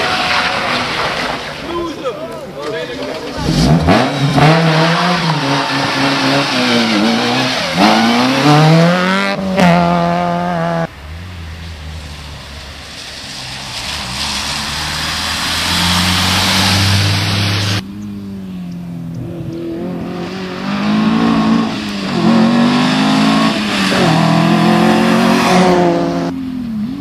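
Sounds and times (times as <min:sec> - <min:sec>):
car engine approaching: 0:00.0 - 0:27.0
rally car engine revving: 0:03.2 - 0:27.0.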